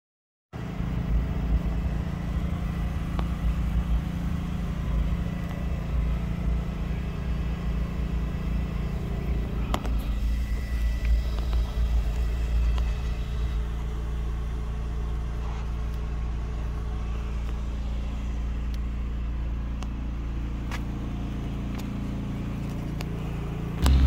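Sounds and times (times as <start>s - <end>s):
low machine hum: 0.6s - 24.0s.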